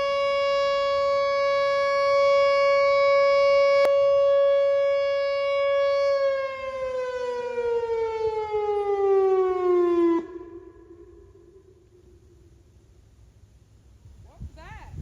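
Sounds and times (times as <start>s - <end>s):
outdoor warning siren: 0.0s - 13.3s.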